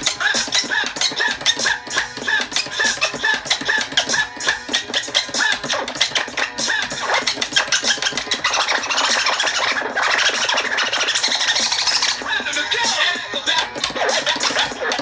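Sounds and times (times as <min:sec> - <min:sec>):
music track with beat: 0:00.0 - 0:09.3, 0:11.2 - 0:15.0.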